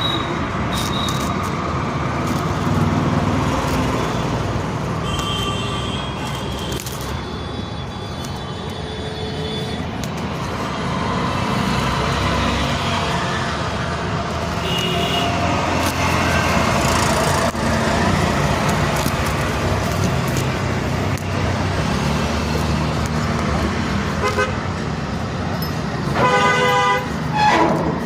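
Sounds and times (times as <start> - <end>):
road traffic noise: 0.0 - 28.0.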